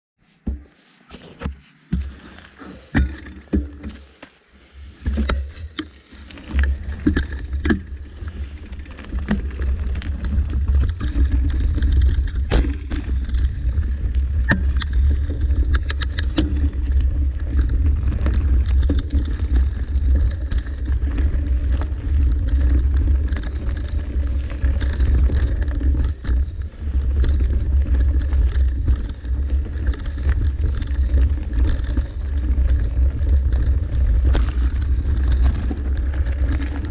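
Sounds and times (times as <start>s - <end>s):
bike tyres rumbling on dirt: 0.4s - 36.9s
bike rattling and clicking: 2.6s - 4.3s, 5.0s - 36.9s.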